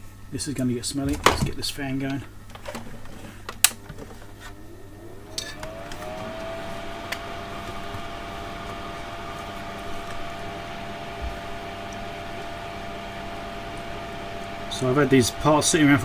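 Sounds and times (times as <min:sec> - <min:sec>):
fan motor whine and hum: 0:00.0 - 0:16.0.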